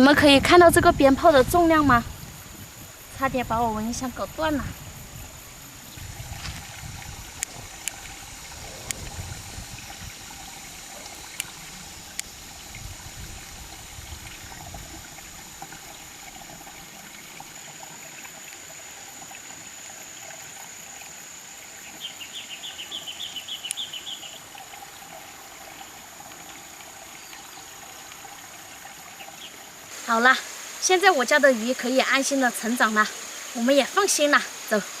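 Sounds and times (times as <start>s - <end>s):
high insect droning: 0.0s - 35.0s
water trickling: 0.0s - 35.0s.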